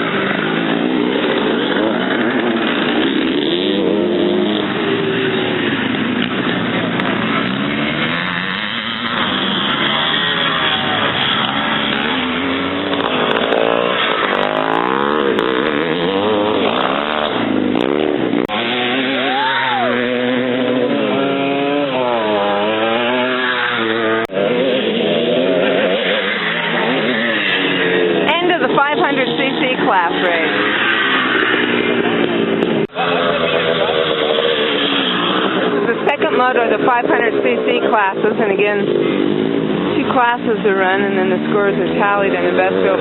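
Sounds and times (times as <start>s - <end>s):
motorcycles racing: 0.0s - 43.0s.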